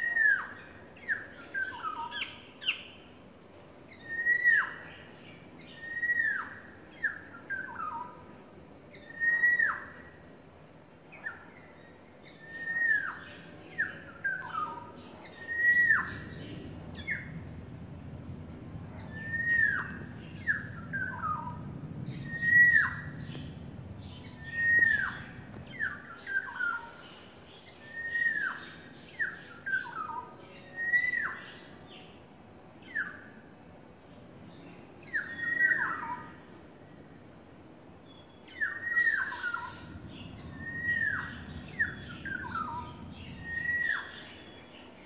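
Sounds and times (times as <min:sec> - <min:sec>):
orioles calling: 0:00.0 - 0:45.0.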